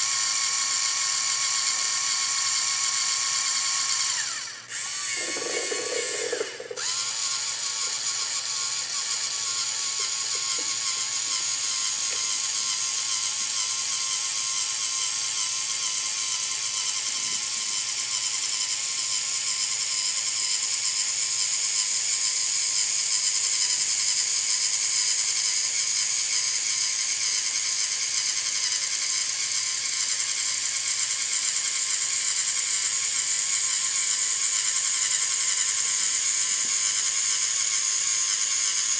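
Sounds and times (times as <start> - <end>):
toy robot motors whirring: 0.0 - 38.9.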